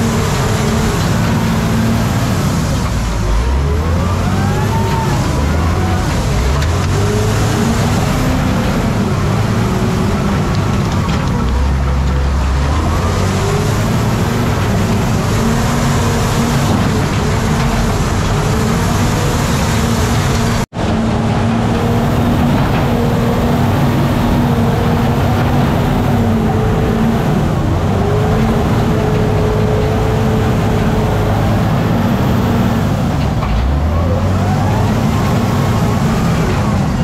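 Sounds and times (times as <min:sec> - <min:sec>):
diesel engine running loud: 0:00.0 - 0:37.0.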